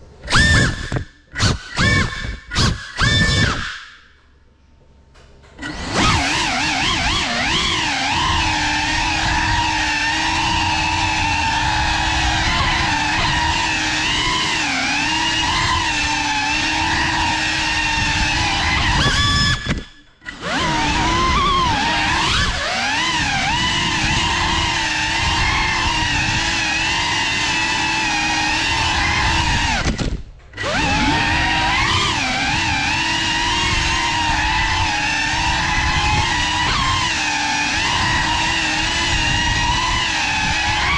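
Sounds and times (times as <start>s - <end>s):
drone motors whining: 0.0s - 4.3s, 5.4s - 40.9s.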